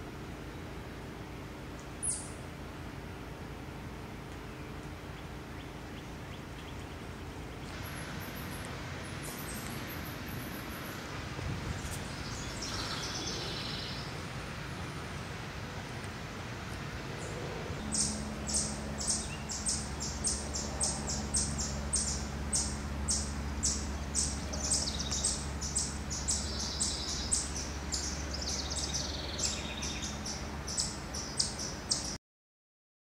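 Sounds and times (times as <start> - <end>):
steady low hum: 0.0 - 32.2.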